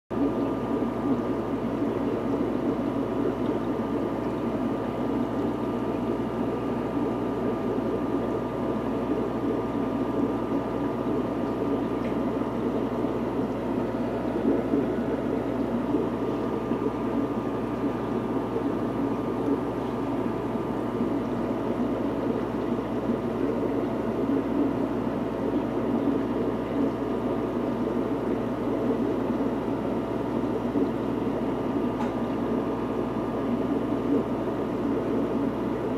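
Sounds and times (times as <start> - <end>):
air pump hum: 0.1 - 35.9
water bubbling: 0.1 - 35.9.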